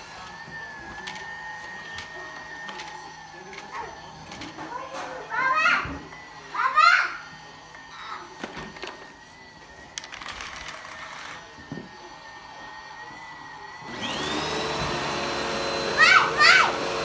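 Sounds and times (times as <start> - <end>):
vacuum cleaner motor whining: 0.0 - 17.0.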